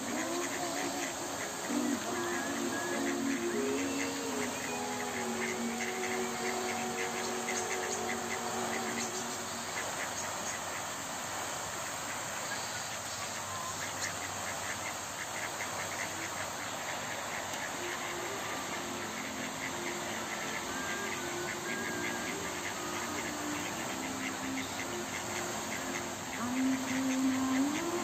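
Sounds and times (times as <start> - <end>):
ducks calling softly: 0.0 - 28.0
outdoor hiss: 0.0 - 28.0.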